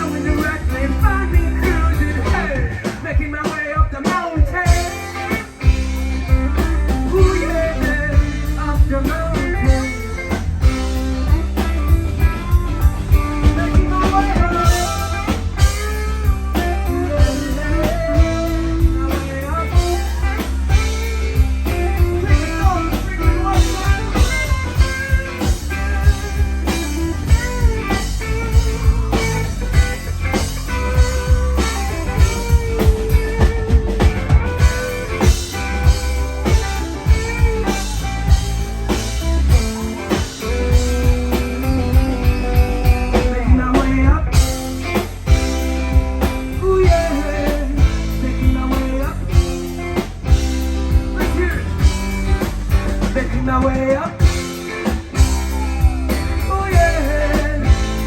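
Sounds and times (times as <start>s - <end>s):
bass guitar: 0.0s - 58.0s
drums: 0.0s - 58.0s
electric guitar solo: 4.6s - 58.0s.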